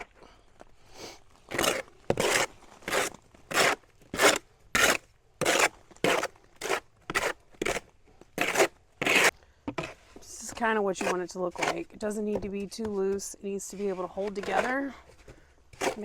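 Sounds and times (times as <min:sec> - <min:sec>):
trowel scraping mortar in bucket: 0:01.4 - 0:16.0.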